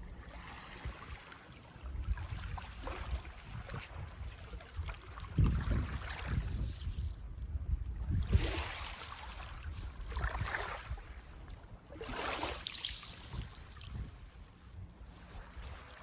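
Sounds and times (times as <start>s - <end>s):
small waves breaking on sand: 0.0s - 7.1s, 8.2s - 14.0s.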